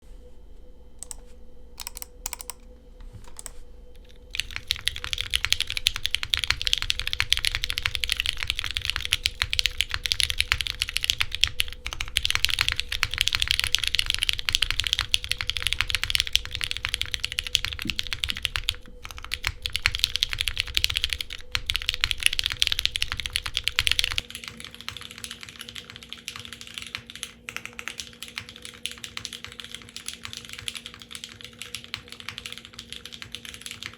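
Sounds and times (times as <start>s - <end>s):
typing on mechanical keyboard: 1.8s - 2.6s, 3.3s - 33.9s.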